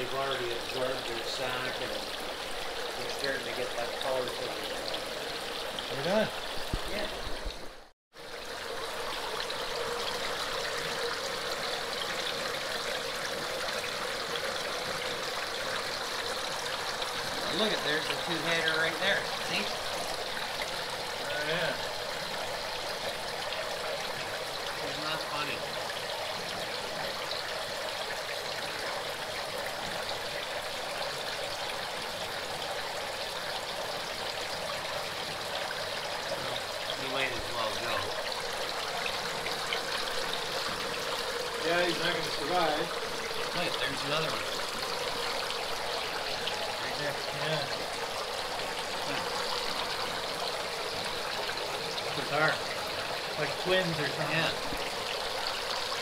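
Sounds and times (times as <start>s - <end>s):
water pouring into a tank: 0.0s - 56.0s.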